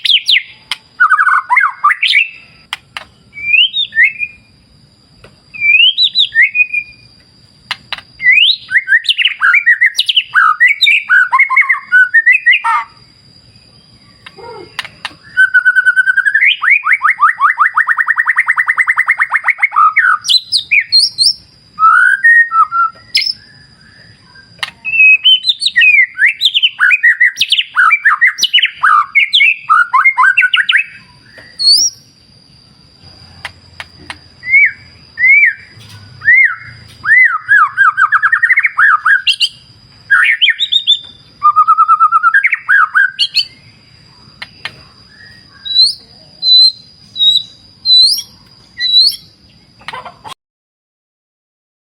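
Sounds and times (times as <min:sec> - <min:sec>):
bird singing whistled phrases: 0:00.0 - 0:02.6, 0:03.3 - 0:04.5, 0:05.5 - 0:07.1, 0:08.2 - 0:13.0, 0:14.1 - 0:32.1, 0:34.4 - 0:43.7, 0:44.5 - 0:49.4.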